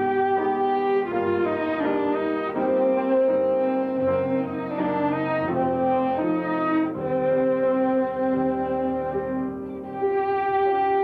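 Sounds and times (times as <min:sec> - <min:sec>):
two violins playing a duet: 0:00.0 - 0:11.0.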